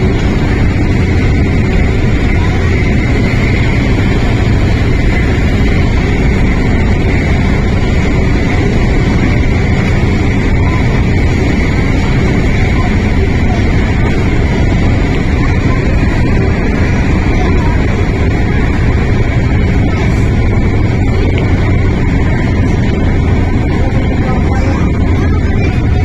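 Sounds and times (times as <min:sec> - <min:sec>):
high whine: 0:00.0 - 0:26.0
train interior low rumble: 0:00.0 - 0:26.0.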